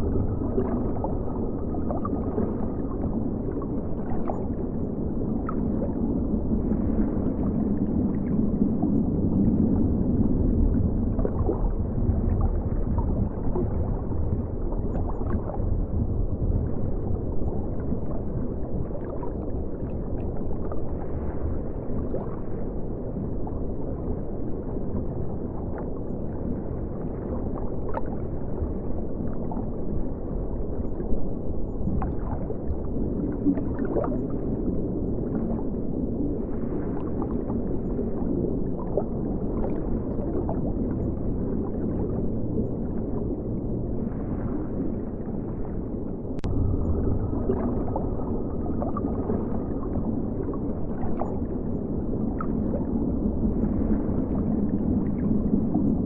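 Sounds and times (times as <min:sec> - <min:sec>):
underwater river rumble and gurgle: 0:00.0 - 0:56.0.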